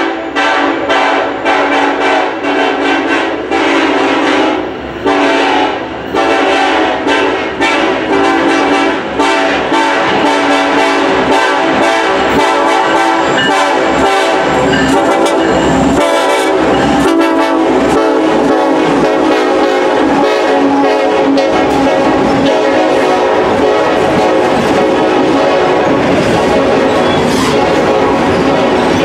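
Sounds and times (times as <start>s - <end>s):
train air horn: 0.0s - 28.8s
train rumble and wheel clatter: 0.0s - 29.0s.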